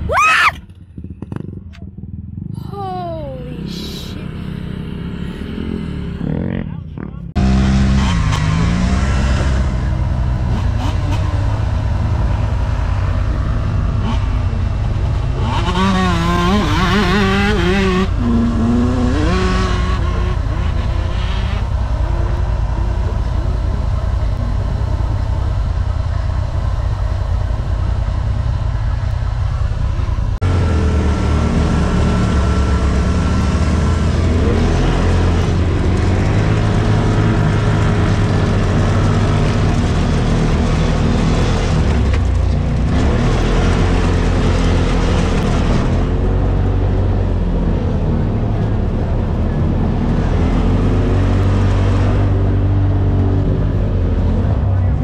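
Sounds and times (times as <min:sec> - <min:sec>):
vehicle engine revving: 0:04.2 - 0:55.0.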